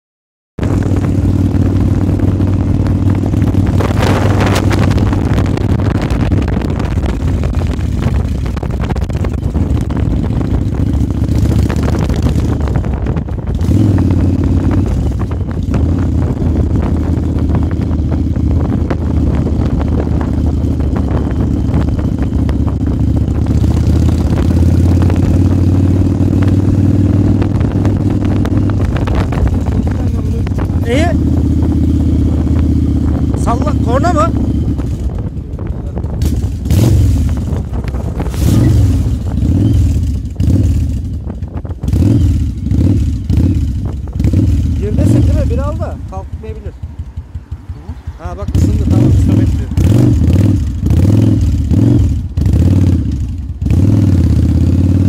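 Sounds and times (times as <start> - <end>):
motorcycle engine running: 0.6 - 55.0
wind rushing over microphone: 0.6 - 55.0.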